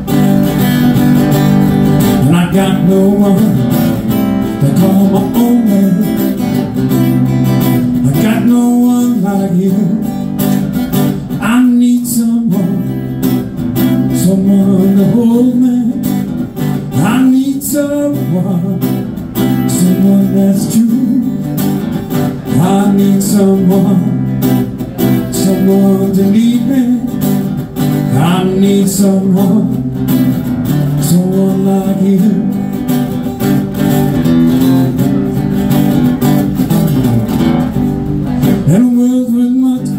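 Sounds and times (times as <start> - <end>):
acoustic guitar blues: 0.0 - 39.9
man singing: 2.0 - 33.3, 38.2 - 39.9.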